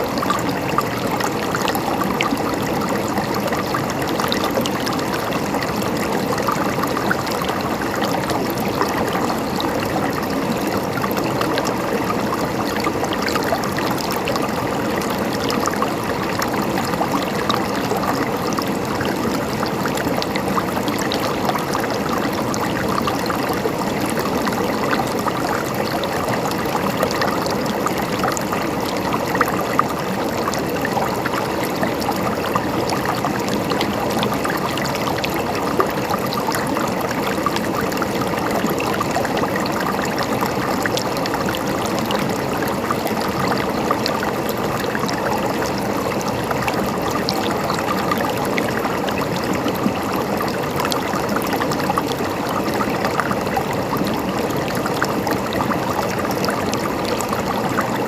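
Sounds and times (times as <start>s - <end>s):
water trickling and gurgling: 0.0s - 58.0s.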